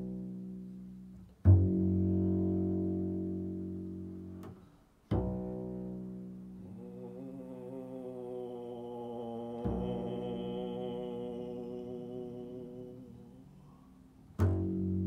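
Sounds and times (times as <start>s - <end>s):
double bass bowed low notes: 0.0s - 15.0s.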